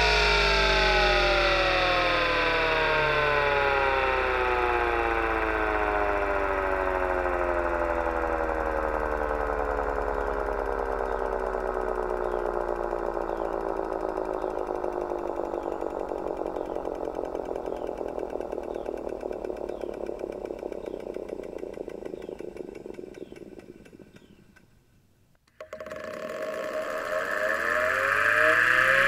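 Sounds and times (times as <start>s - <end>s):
hard disk drive spinning down: 0.0s - 24.9s, 25.5s - 29.0s.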